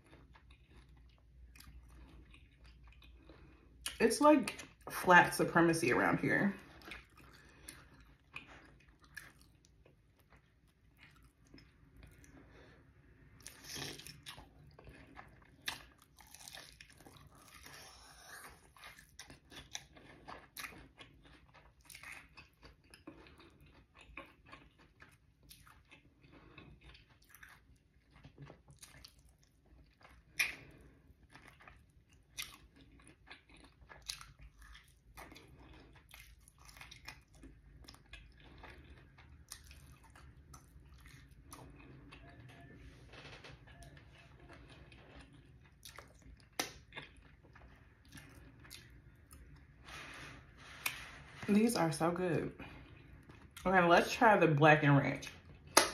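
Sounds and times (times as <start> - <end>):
chewing crispy chicken: 0.0 - 4.9, 6.5 - 51.4, 52.6 - 54.2.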